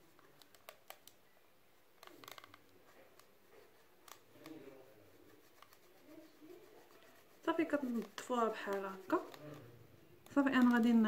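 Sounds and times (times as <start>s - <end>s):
cotton pad wiping plastic: 2.0s - 11.0s.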